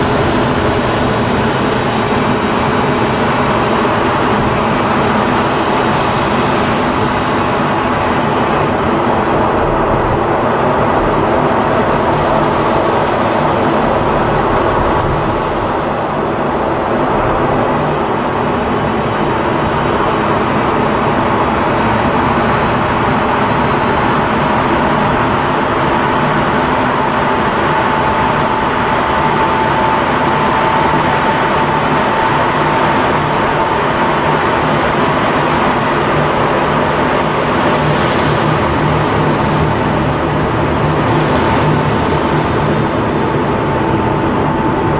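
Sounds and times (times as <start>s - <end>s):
jet engine and rushing air: 0.0s - 44.9s.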